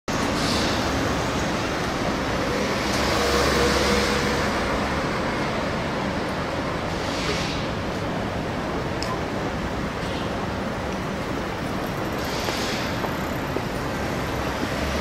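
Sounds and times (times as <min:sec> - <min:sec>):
cars driving past: 0:00.1 - 0:15.0.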